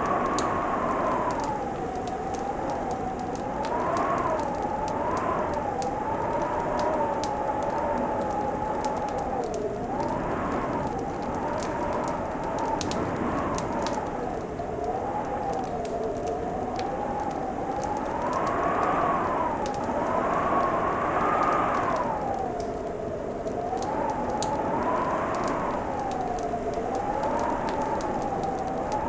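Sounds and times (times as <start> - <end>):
howling wind: 0.0 - 29.0
wood fire crackling and popping: 0.0 - 29.0.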